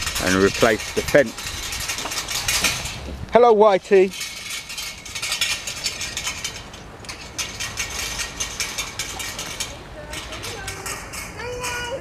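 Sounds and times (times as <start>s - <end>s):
crackling and rustling of straw: 0.0s - 12.0s.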